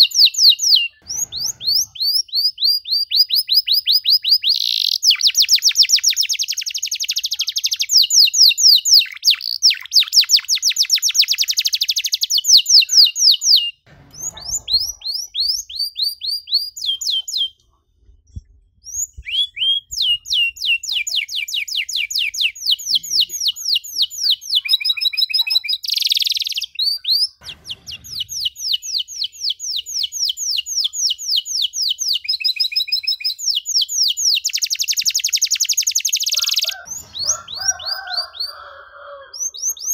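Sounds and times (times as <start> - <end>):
canary singing fast trills: 0.0 - 17.6, 18.8 - 39.9.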